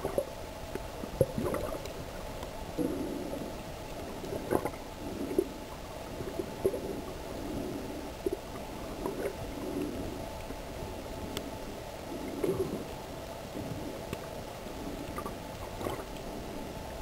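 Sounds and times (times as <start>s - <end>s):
underwater gurgling and sloshing: 0.0s - 17.0s.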